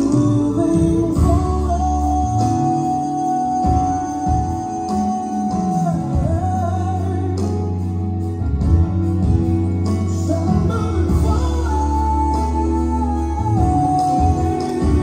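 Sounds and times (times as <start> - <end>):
slow gospel song: 0.0 - 15.0.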